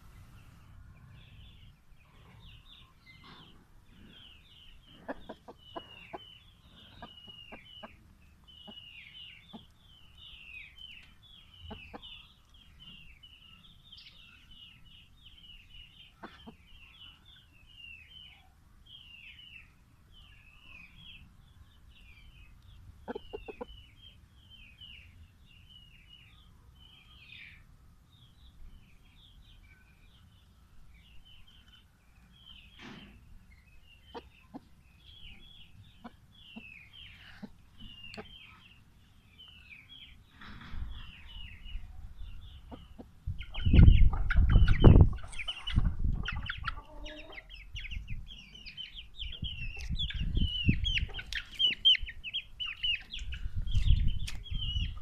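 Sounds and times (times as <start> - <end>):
small birds peeping: 0.0 - 55.0.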